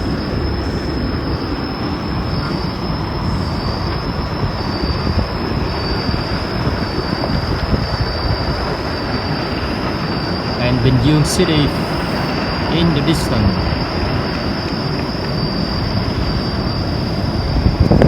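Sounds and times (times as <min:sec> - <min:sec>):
wind rumbling on microphone: 0:00.0 - 0:11.2, 0:13.5 - 0:18.0
steady high-pitched whine: 0:00.0 - 0:18.0.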